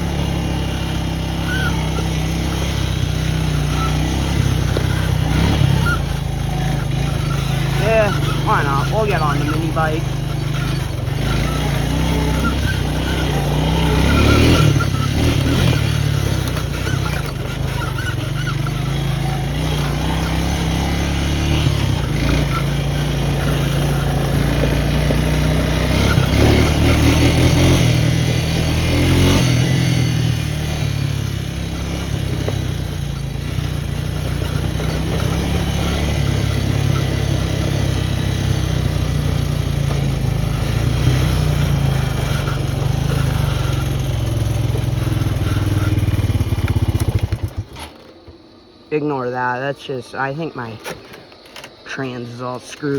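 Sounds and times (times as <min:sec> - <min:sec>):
four-wheeler engine running: 0:00.0 - 0:52.9.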